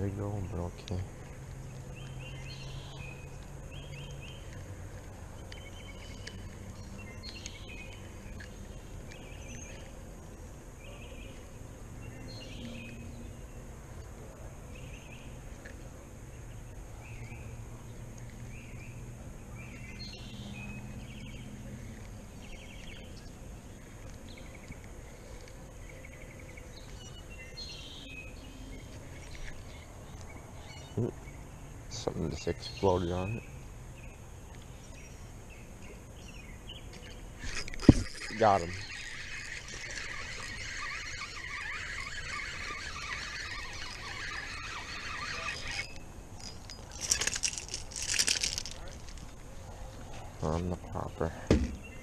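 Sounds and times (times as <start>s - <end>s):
birds chirping in trills: 0.0s - 52.0s.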